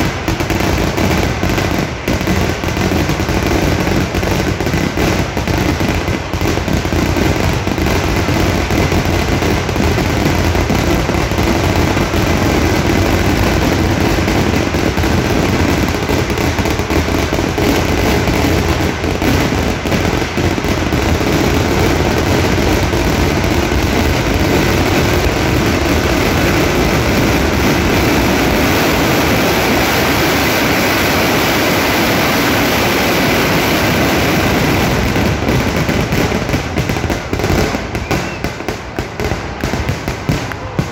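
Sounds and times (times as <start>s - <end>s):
firecracker explosions barrage: 0.0s - 40.9s.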